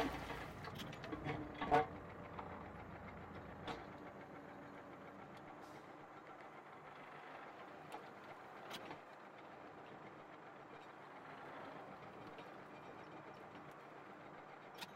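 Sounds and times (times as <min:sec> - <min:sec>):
harrow discs working soil: 0:00.0 - 0:14.9
tractor diesel engine running: 0:00.0 - 0:14.9.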